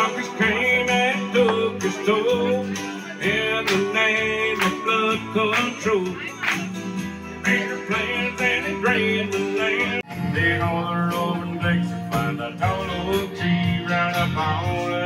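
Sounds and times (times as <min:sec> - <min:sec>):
country band playing dance tune: 0:00.0 - 0:15.0.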